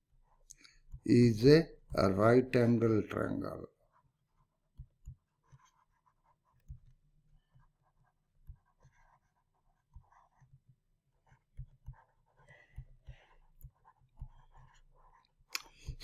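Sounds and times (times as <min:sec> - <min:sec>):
stylus scratching on tablet: 0:00.0 - 0:16.0.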